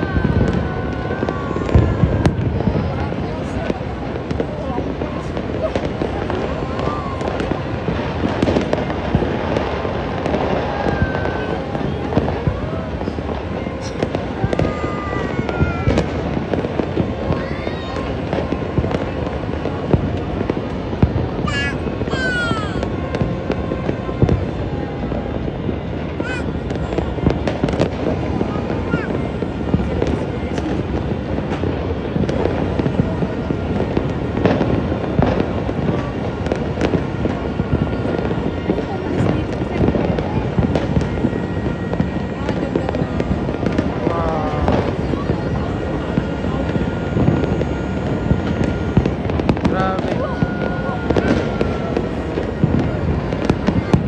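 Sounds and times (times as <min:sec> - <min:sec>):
firework whistles: 0:00.0 - 0:54.0
fireworks and firecrackers banging: 0:00.0 - 0:54.0.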